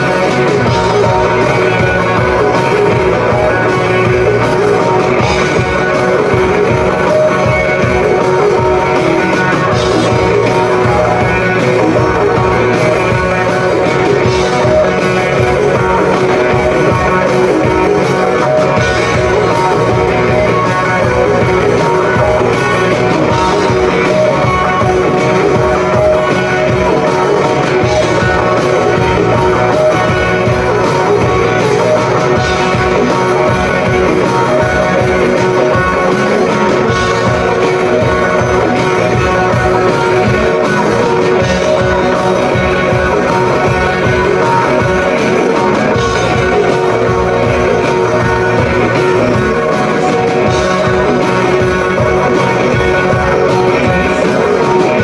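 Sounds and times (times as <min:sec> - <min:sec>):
electric guitar: 0:00.0 - 0:55.0
rock band playing live: 0:00.0 - 0:55.0.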